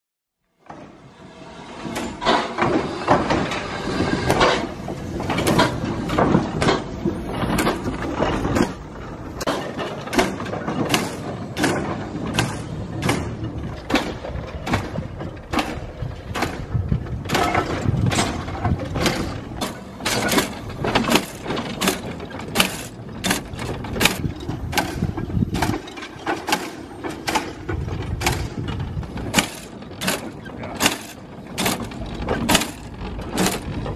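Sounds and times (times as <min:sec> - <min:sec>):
constant rushing noise: 0:01.1 - 0:33.9.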